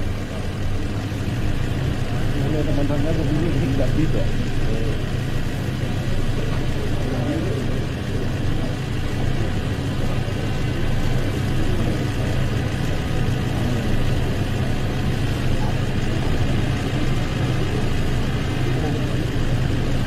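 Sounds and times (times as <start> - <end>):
faint distant voices: 0.0 - 20.0
low engine hum: 0.0 - 20.0.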